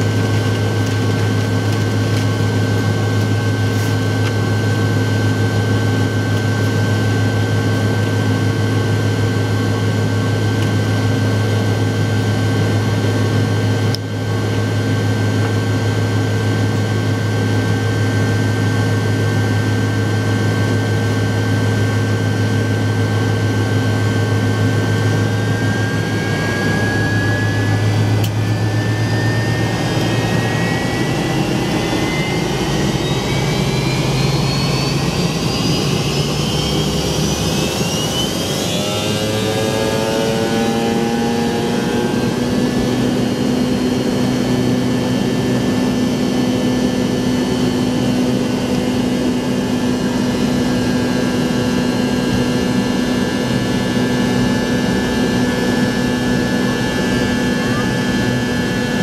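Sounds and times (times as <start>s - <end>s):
jet engine hum and whine: 0.0s - 59.0s.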